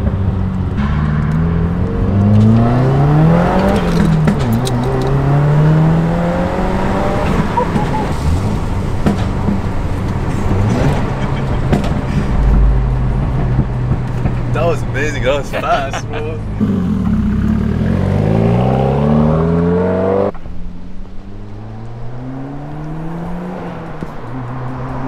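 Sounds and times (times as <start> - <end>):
car engine accelerating: 0.0 - 25.0
exhaust crackles: 0.0 - 25.0.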